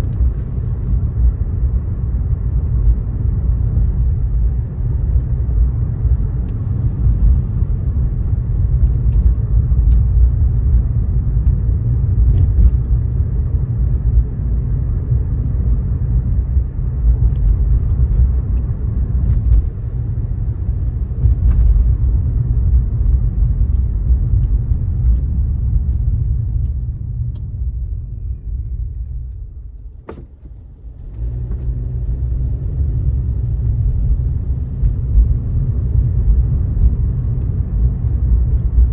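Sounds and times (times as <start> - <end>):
car tyres on wet road: 0.0 - 38.9.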